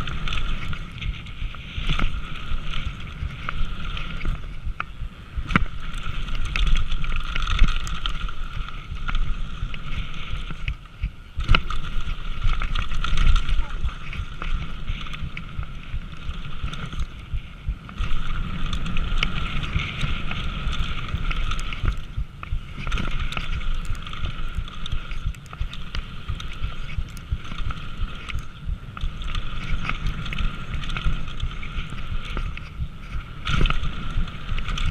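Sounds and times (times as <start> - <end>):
bike clattering and rattling: 0.0 - 34.9
tyres rumbling on dirt: 0.0 - 34.9
wind rushing over microphone: 0.0 - 34.9.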